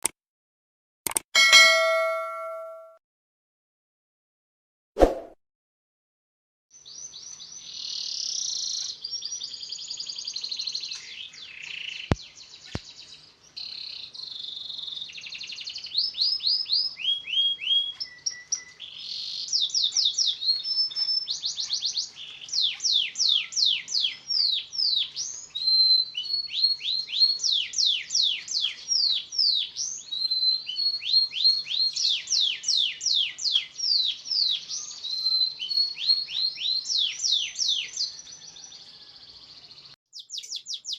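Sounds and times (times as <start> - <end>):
canary singing: 7.0 - 40.9.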